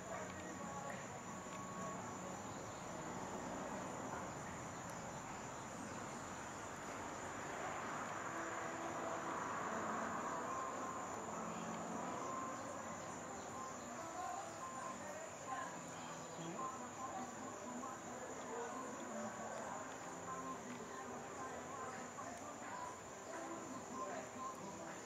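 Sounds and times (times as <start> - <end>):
insects trilling: 0.0 - 25.0
soft background hiss: 0.0 - 25.0.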